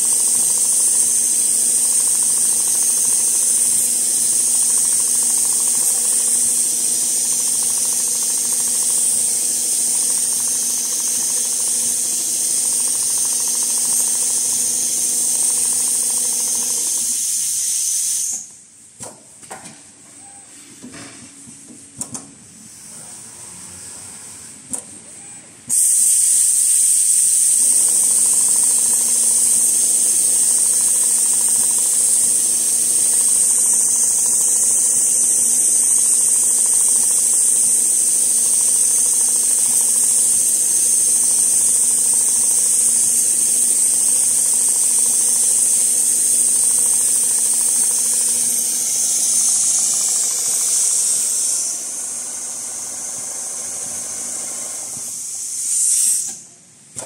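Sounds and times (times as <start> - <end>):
sewing machine humming: 0.0 - 17.6, 26.1 - 55.2
compressed air hissing: 0.0 - 18.8, 25.7 - 56.6.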